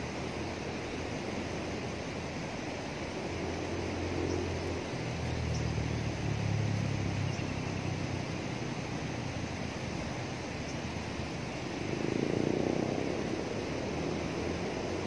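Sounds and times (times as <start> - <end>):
low engine hum: 0.0 - 15.0
water rushing through sluice: 0.0 - 15.0.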